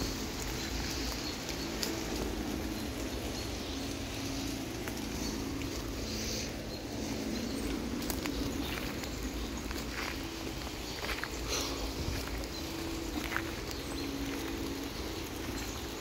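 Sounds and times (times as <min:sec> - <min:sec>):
rain on leaves: 0:00.0 - 0:16.0
water drips: 0:00.0 - 0:16.0.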